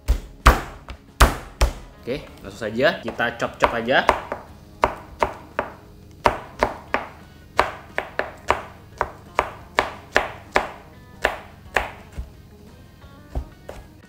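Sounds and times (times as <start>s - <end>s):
knife chopping on cutting board: 0.0s - 1.9s, 3.0s - 12.4s, 13.3s - 14.0s.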